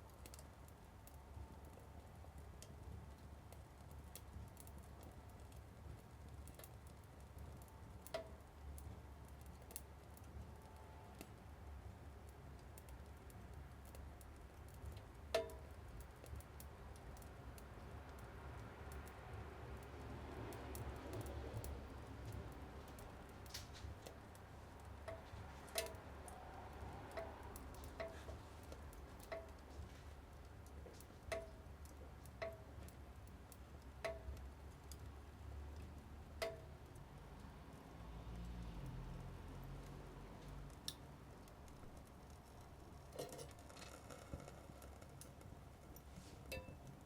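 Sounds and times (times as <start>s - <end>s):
metal stove ticking and popping: 0.1s - 11.4s, 12.1s - 37.0s, 40.7s - 47.0s.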